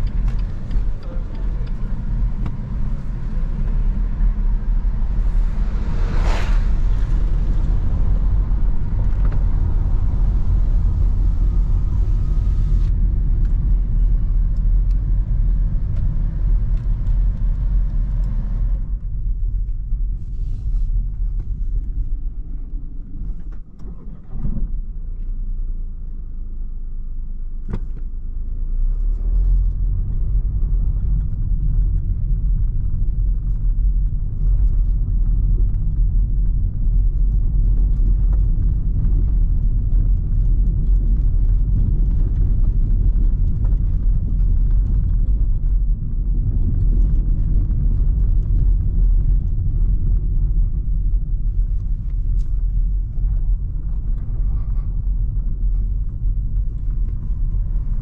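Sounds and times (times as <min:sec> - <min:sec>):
car cabin engine and tyre rumble: 0:00.0 - 0:58.0.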